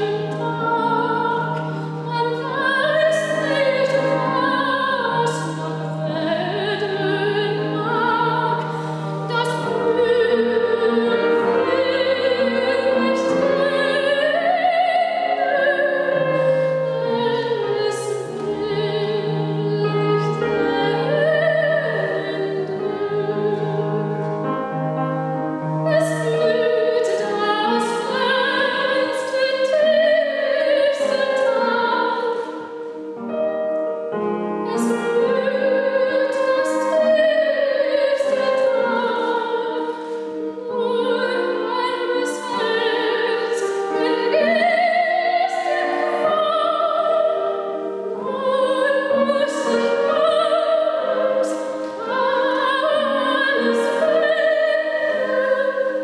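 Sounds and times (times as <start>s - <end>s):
piano accompaniment: 0.0s - 56.0s
soprano singing opera: 0.0s - 56.0s.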